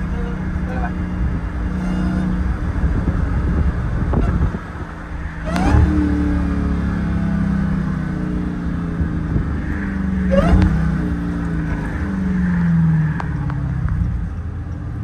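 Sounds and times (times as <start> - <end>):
car engine revving: 0.0 - 14.7
road noise: 0.0 - 15.0.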